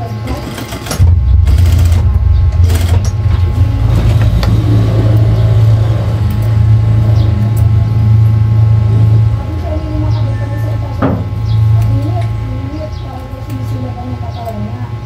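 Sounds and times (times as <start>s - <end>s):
low motor hum: 0.9s - 15.0s.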